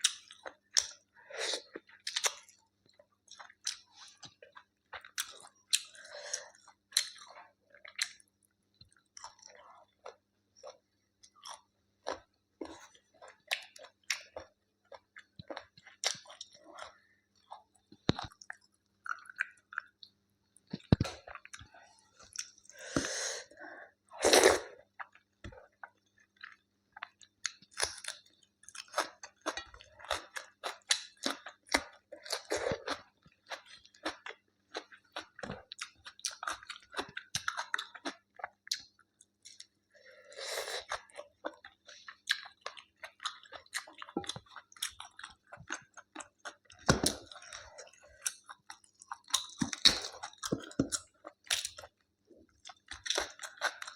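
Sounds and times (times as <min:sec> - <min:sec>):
person chewing: 0:00.0 - 0:23.5, 0:24.2 - 0:53.9.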